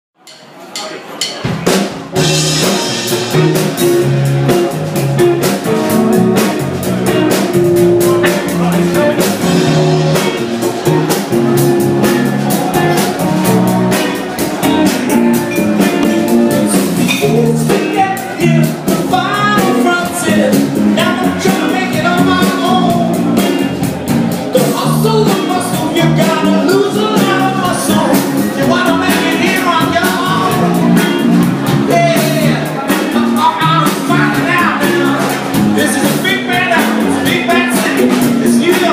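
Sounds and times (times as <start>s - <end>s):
soul band playing: 0.7s - 38.9s
person singing: 5.4s - 23.8s, 24.5s - 38.9s.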